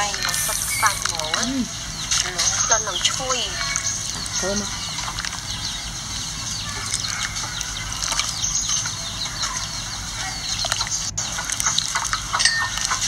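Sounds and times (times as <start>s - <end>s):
high bird chirps: 0.0s - 11.1s
chickens clucking: 0.0s - 13.0s
steady low hum: 0.0s - 13.0s.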